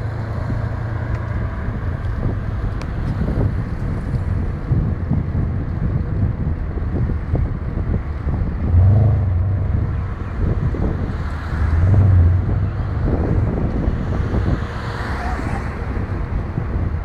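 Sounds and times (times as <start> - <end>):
car engine rumbling: 0.0 - 17.0
wind buffeting microphone: 0.0 - 17.0.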